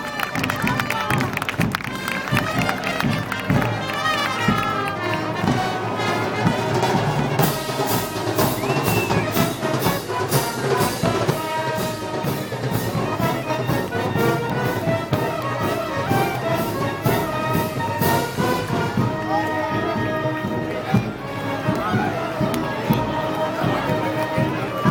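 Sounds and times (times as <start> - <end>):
brass band march: 0.0 - 24.9
percussion with cymbals: 0.0 - 24.9.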